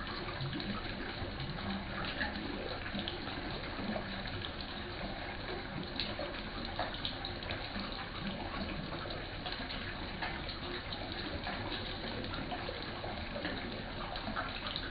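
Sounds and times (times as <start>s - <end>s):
water running: 0.0s - 14.9s
water splashes and drips: 0.0s - 14.9s.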